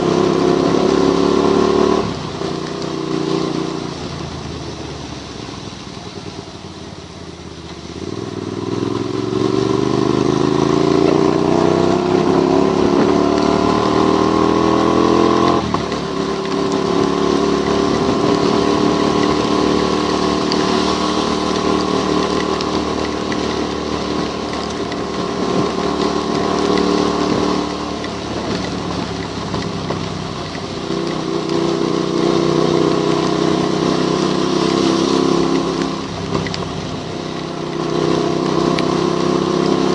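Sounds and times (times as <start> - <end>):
motorcycle engine accelerating: 0.0 - 5.2, 7.7 - 39.9
wind and tyres on wet road: 0.0 - 39.9.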